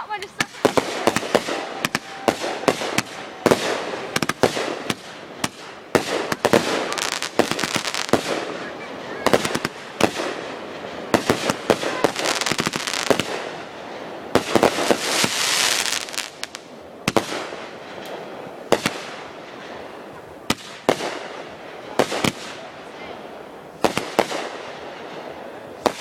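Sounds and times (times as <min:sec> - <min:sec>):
fireworks bangs: 0:00.0 - 0:26.0
fireworks crackling hiss: 0:00.0 - 0:26.0.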